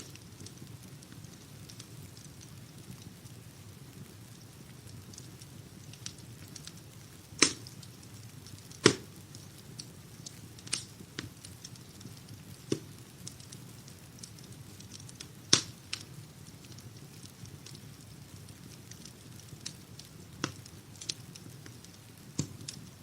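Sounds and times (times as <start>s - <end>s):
sharp pops from fire: 0.0s - 23.0s
wood fire crackling: 0.0s - 23.0s.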